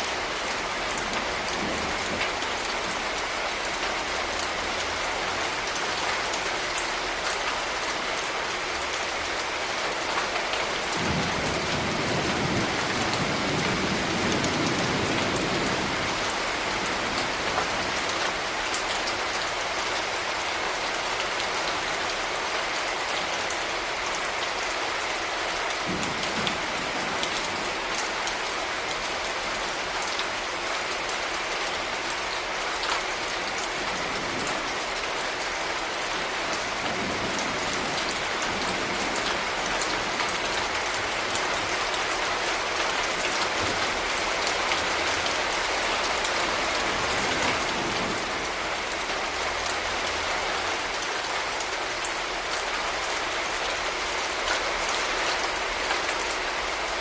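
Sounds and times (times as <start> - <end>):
rain pattering on hard surfaces: 0.0 - 57.0.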